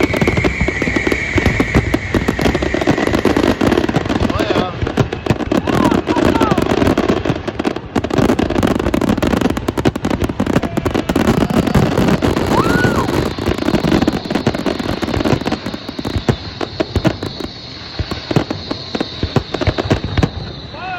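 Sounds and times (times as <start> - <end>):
firework whistle: 0.0 - 20.9
fireworks crackling pops and bangs: 0.0 - 20.9.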